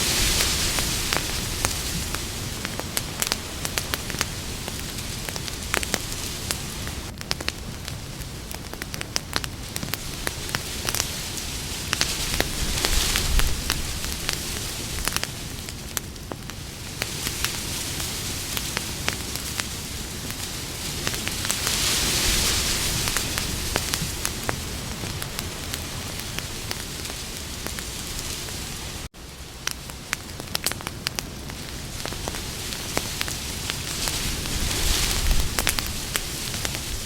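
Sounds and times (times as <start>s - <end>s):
campfire crackling: 0.0s - 37.0s
rush of flame: 0.0s - 37.0s.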